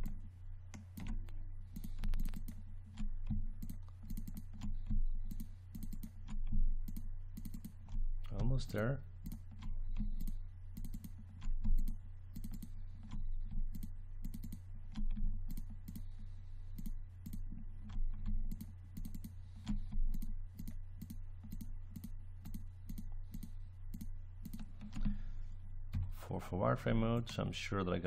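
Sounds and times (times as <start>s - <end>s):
computer mouse clicks: 0.0s - 25.3s
low electrical hum: 0.0s - 28.0s.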